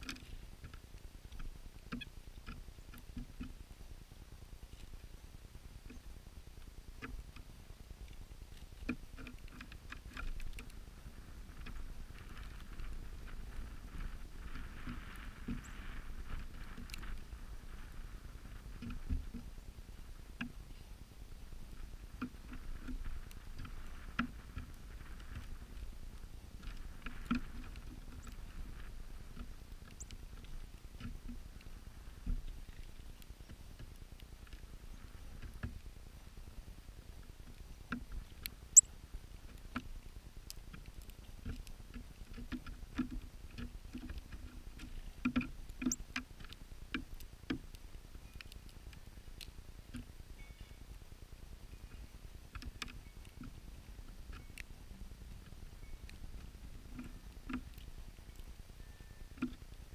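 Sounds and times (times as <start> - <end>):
birds pecking seed: 0.0 - 59.9.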